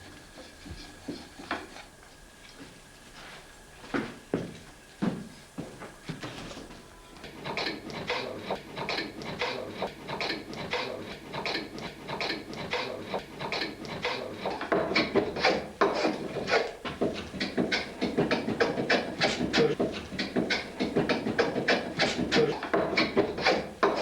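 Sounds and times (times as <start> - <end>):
hand tool working wood: 0.0 - 3.5, 6.1 - 24.0.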